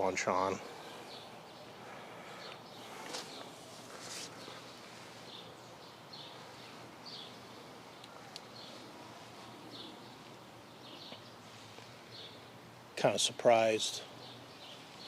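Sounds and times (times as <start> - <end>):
bird chirping: 0.0 - 12.6, 13.8 - 15.0
outdoor background noise: 0.0 - 15.0.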